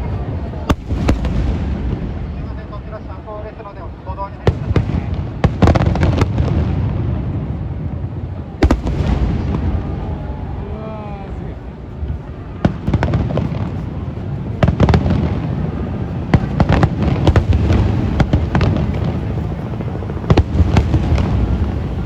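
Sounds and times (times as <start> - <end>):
continuous low rumble: 0.0 - 22.0
fireworks bangs and crackles: 0.0 - 22.0.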